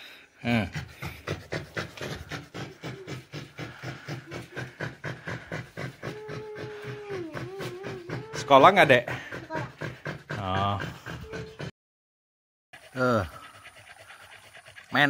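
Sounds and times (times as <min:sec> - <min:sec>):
dog panting fast: 0:00.6 - 0:11.8, 0:12.8 - 0:15.0.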